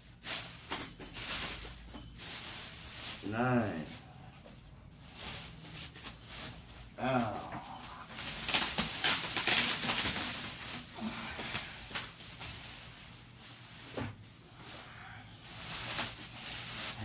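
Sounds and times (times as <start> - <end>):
plastic wrap rustling and crinkling: 0.0 - 17.0.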